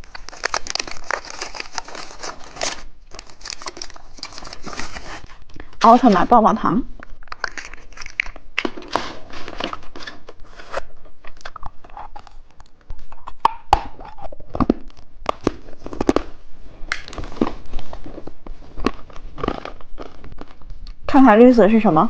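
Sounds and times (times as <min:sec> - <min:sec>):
plastic wrapper crinkling: 0:00.0 - 0:06.4, 0:07.0 - 0:21.0.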